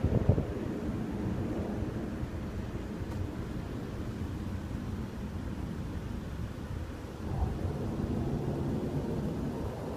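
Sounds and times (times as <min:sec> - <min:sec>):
jet aircraft rumble overhead: 0:00.0 - 0:09.9.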